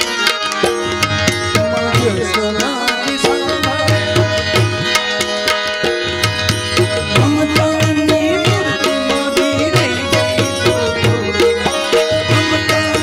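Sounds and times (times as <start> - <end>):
harmonium chords: 0.0 - 13.0
man singing: 1.1 - 5.3, 6.8 - 13.0.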